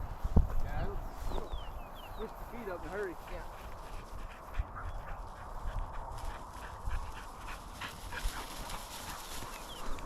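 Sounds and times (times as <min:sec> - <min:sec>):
crunching through dry grass: 0:00.0 - 0:10.0
wind rumble on microphone: 0:00.0 - 0:10.0.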